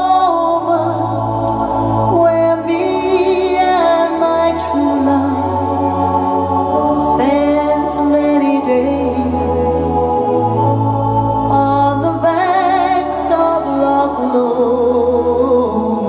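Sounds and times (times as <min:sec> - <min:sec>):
woman singing: 0:00.0 - 0:01.5, 0:02.1 - 0:06.2, 0:06.9 - 0:10.3, 0:11.5 - 0:16.0
bass: 0:00.0 - 0:16.0
keyboard: 0:00.0 - 0:16.0.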